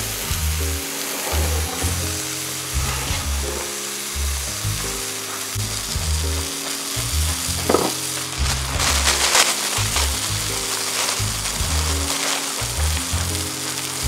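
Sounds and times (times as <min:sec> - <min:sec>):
background music with bass line: 0:00.0 - 0:14.0
patty sizzling in a skillet: 0:00.0 - 0:14.0.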